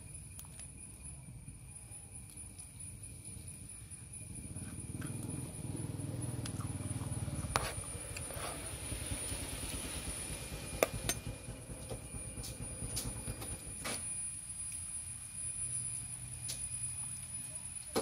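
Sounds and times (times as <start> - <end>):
faint steady high tone: 0.0 - 18.0.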